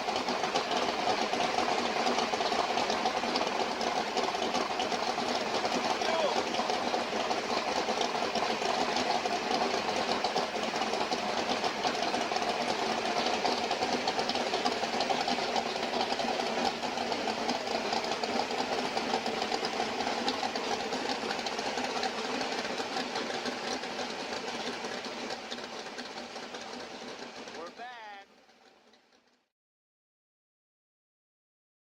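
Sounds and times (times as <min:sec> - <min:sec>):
engine running with clatter: 0:00.0 - 0:29.5.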